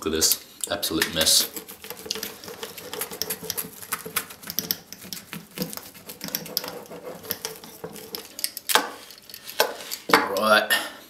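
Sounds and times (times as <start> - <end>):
pizza cutter crackling through crust: 1.0 - 9.9.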